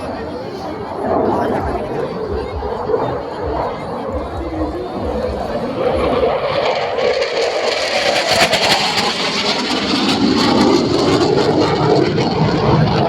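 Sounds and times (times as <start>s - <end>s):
fighter jet engine roaring: 0.0s - 13.0s.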